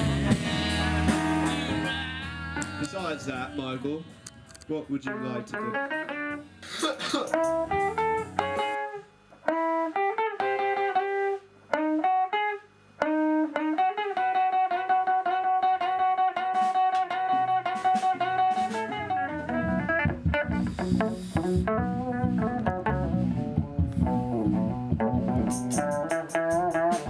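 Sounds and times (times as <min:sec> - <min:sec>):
guitar melody: 0:00.0 - 0:27.0.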